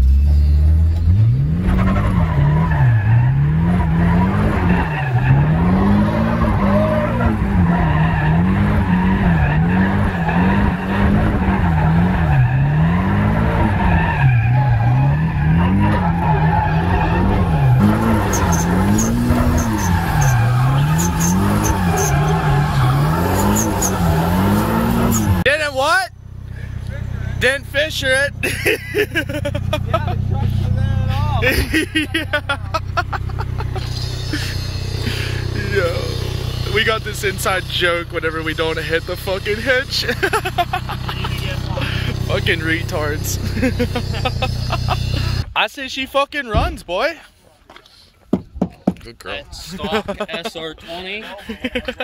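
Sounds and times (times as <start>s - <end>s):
car engine revving: 0.0s - 45.5s
tyres skidding: 0.0s - 52.0s.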